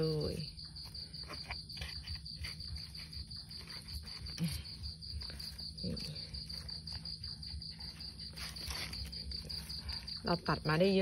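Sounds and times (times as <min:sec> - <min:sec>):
crickets chirping: 0:00.0 - 0:11.0
rustling leaves and soil: 0:00.0 - 0:11.0.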